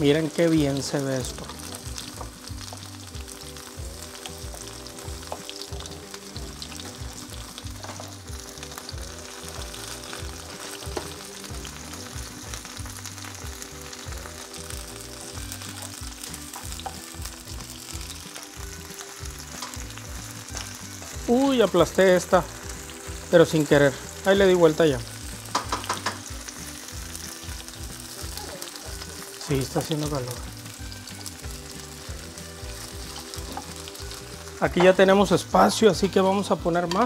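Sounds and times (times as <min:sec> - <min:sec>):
meatballs sizzling in oil: 0:00.0 - 0:37.0.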